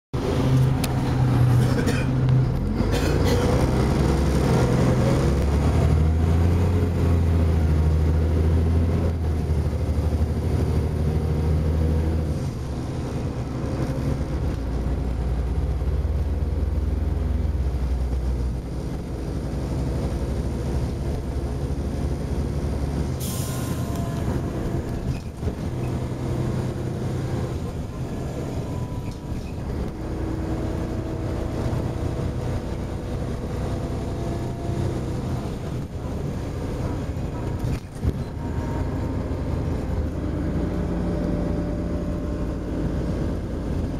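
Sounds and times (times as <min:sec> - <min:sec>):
bus diesel engine whining: 0:00.2 - 0:43.9.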